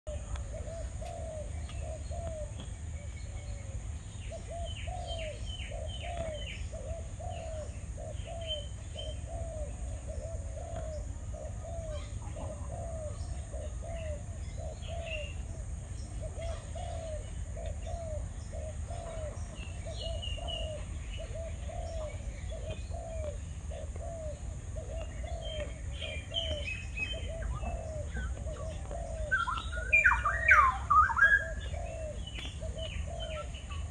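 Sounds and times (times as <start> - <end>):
dove cooing: 0.1 - 33.9
small birds chirping: 0.1 - 33.9.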